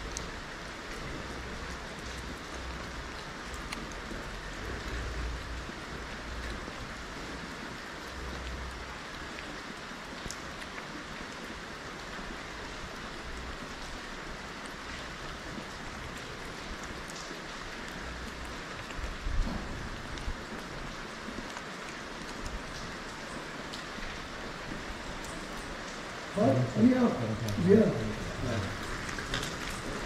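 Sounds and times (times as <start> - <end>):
light rain on wet street: 0.0 - 30.0.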